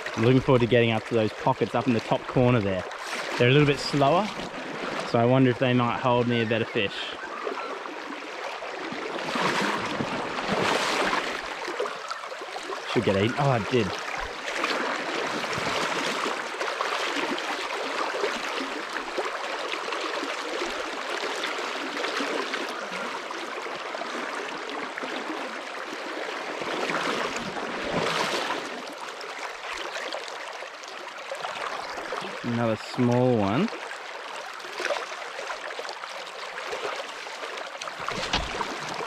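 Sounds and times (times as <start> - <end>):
river water rushing: 6.9 - 30.4, 31.3 - 39.0.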